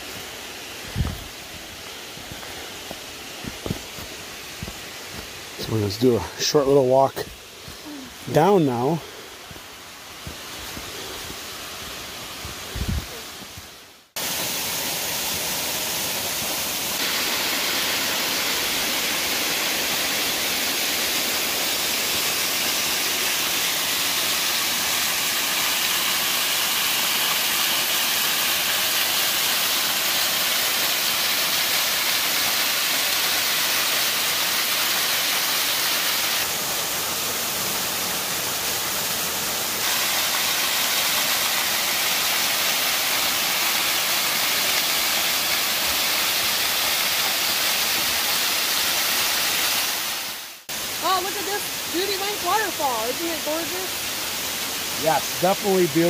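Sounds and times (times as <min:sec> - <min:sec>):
waterfall rushing and splashing: 0:00.0 - 0:56.0.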